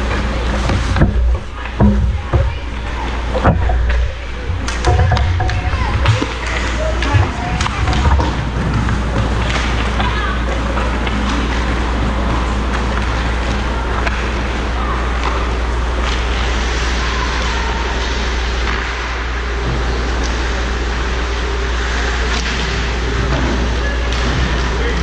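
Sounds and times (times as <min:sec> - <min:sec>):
arena low hum: 0:00.0 - 0:25.0.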